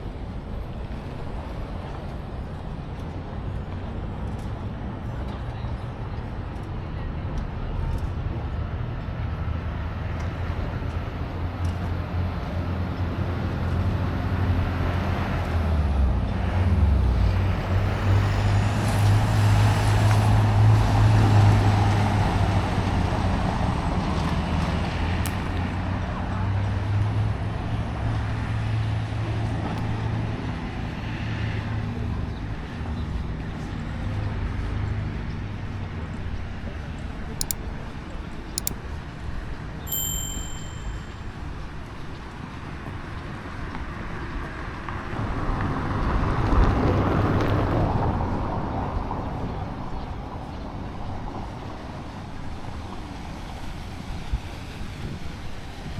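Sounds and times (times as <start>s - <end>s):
traffic noise: 0.0s - 55.9s.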